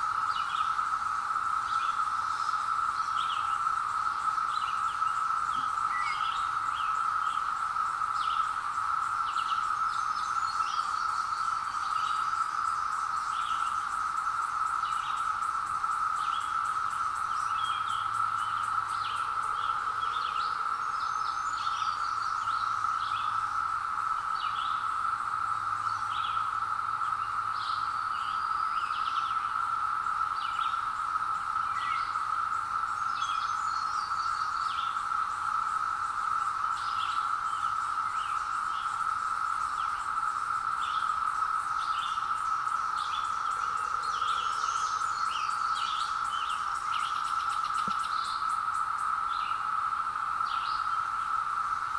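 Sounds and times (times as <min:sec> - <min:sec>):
cicadas droning: 0:00.0 - 0:51.9
songbirds chirping: 0:00.0 - 0:51.9.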